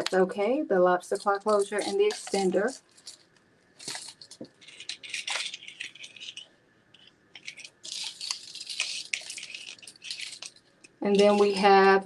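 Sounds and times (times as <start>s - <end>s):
necklaces and chains rattling: 1.1s - 6.5s, 7.4s - 11.6s.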